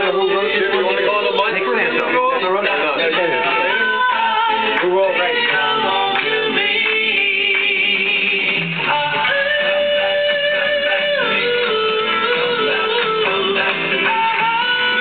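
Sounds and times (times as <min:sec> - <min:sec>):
guitar accompaniment: 0:00.0 - 0:15.0
voices singing doo-wop: 0:00.0 - 0:15.0.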